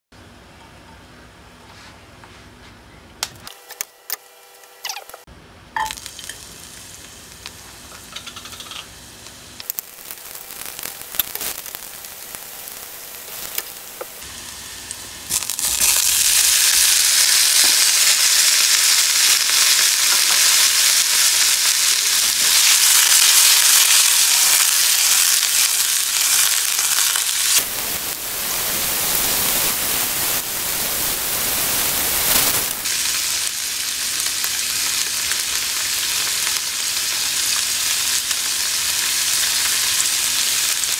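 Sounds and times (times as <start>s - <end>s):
aromatics crackling in hot oil: 4.2s - 40.9s
tofu sizzling loudly in oil: 5.8s - 40.9s.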